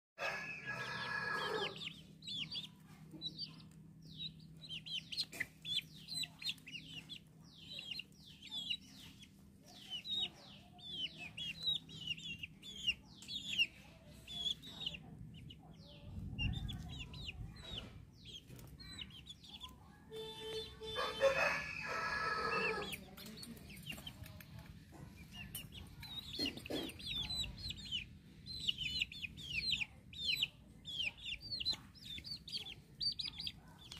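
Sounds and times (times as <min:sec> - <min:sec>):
chicks peeping: 0:00.2 - 0:33.9.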